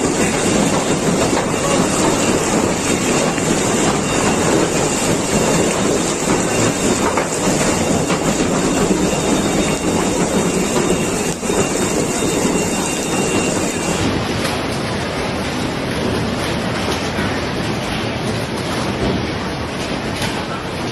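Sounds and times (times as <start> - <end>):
hail and rain drumming on roof: 0.0 - 20.9.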